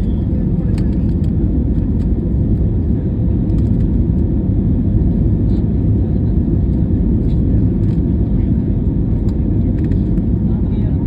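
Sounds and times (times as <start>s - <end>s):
airplane engines at takeoff: 0.0s - 11.0s.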